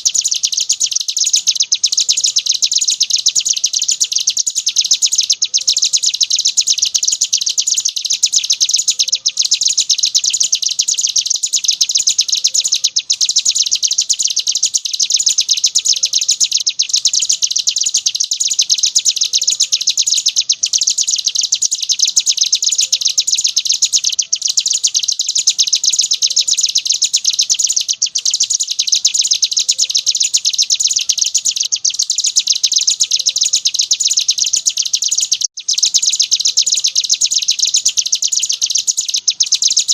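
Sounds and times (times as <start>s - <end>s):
songbird rapid high chirps: 0.0s - 39.9s.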